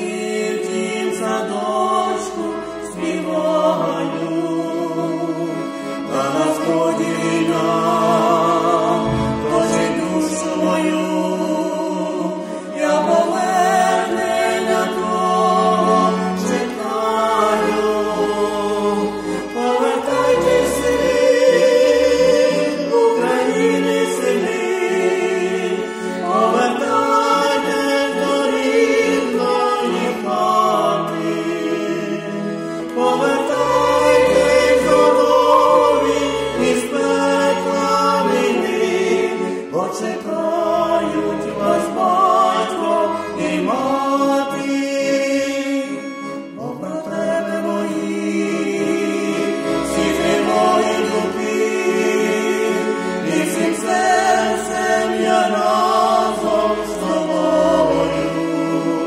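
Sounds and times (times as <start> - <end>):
button accordion: 0.0 - 59.0.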